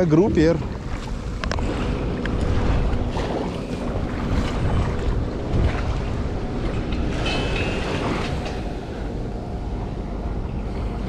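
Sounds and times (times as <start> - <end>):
sea waves on shore: 0.0 - 11.0
wind buffeting microphone: 0.0 - 11.0.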